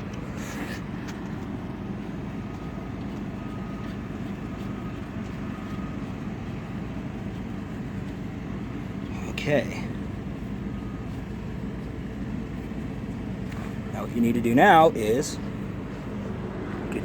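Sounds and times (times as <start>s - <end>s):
diesel saw engine idling: 0.0s - 17.0s.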